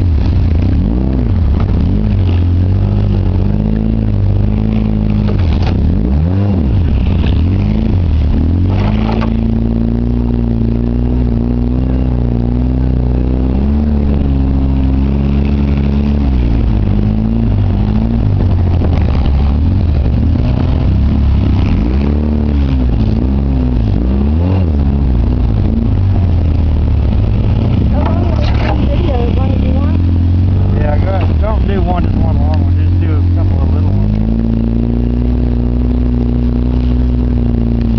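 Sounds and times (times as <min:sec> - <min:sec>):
engine running: 0:00.0 - 0:37.9.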